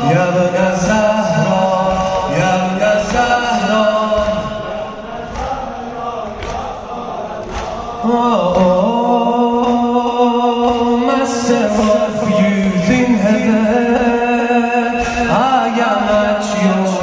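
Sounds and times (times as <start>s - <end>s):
men chanting a lament: 0.0s - 17.0s
soft regular beats: 0.0s - 17.0s.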